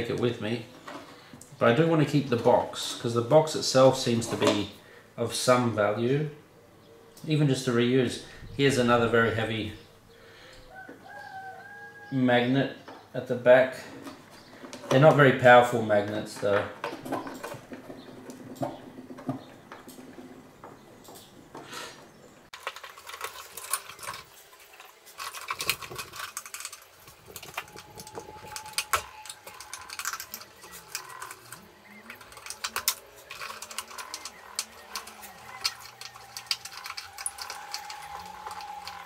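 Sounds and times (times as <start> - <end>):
wires and metal parts rattling: 0.0 - 4.8, 7.1 - 10.0, 13.0 - 21.6, 22.4 - 39.0.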